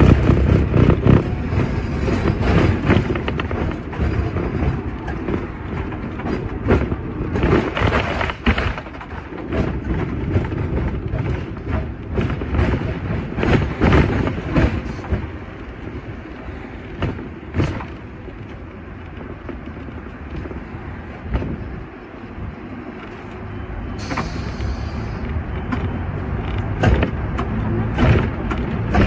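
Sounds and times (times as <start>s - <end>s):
clunks over track: 0.0s - 29.0s
tram rattling on rails: 0.0s - 29.0s.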